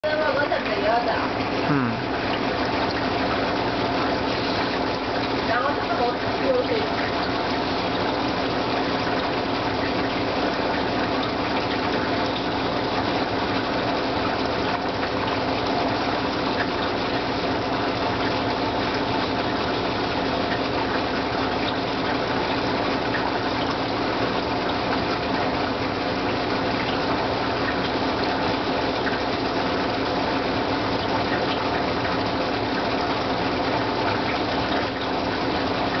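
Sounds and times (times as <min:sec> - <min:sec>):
aquarium water splashing: 0:00.0 - 0:36.0
pump hum: 0:00.0 - 0:36.0.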